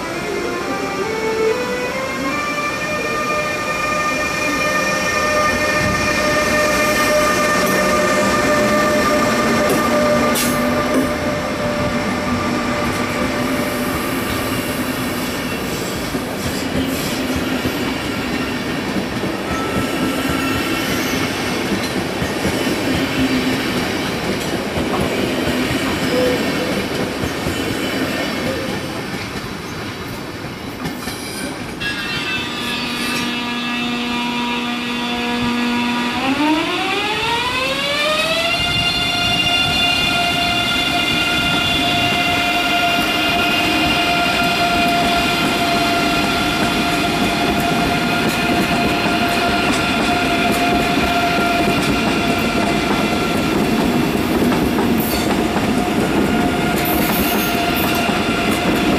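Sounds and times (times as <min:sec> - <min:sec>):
electric locomotive whining: 0:00.0 - 0:58.9
train wheels rumbling on rails: 0:02.1 - 0:36.1, 0:36.8 - 0:58.9.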